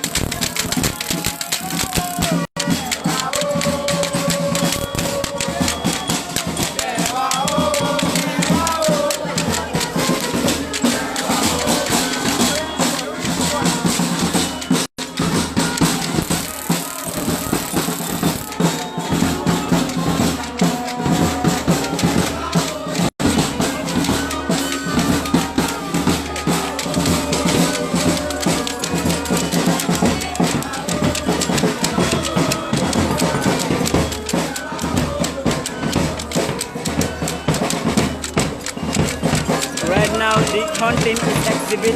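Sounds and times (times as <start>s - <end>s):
drums and rattles percussion music: 0.0s - 41.9s.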